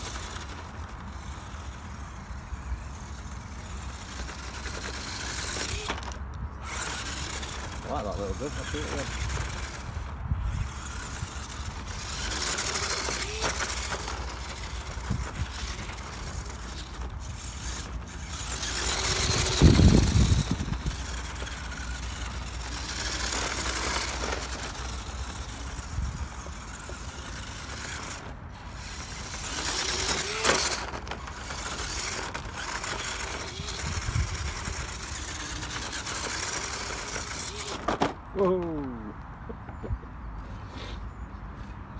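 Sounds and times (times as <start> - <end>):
rc car motor and tyres on dirt: 0.0 - 41.9.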